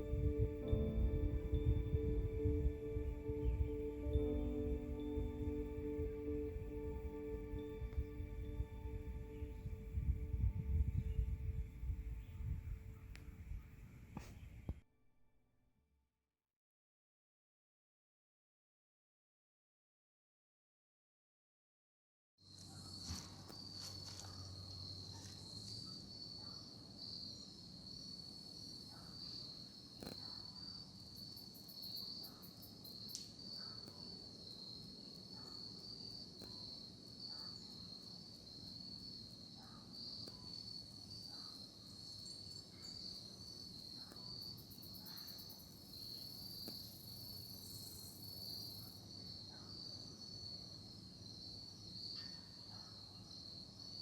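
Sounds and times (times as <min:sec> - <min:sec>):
crickets chirping: 0:00.0 - 0:13.7, 0:22.5 - 0:54.0.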